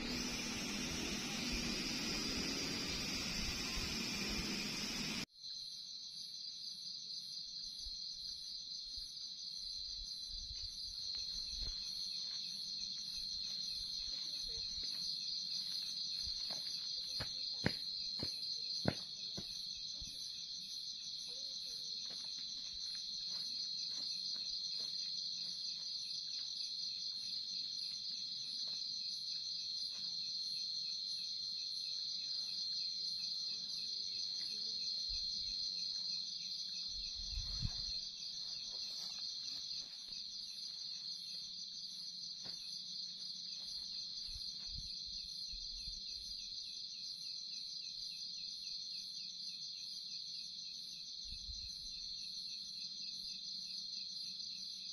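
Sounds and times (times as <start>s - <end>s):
night insects trilling: 0.0s - 54.9s.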